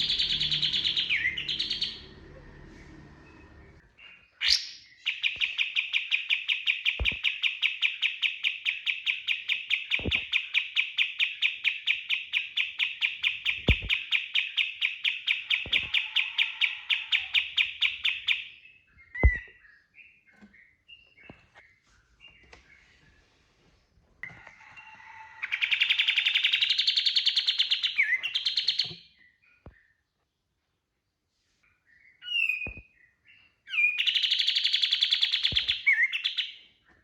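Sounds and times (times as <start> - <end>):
songbird rapid-fire song: 0.0 - 23.0, 25.4 - 30.1, 31.8 - 36.7.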